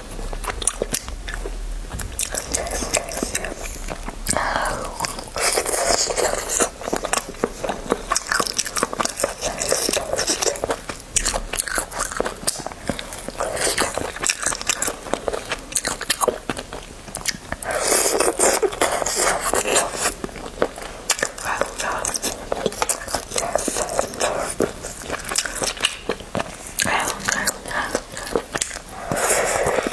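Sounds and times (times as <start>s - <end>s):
person biting and chewing meat: 0.0s - 29.9s.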